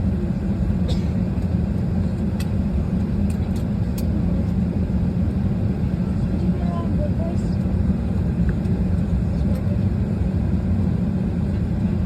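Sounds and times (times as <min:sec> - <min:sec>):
air conditioning hum in cabin: 0:00.0 - 0:12.0.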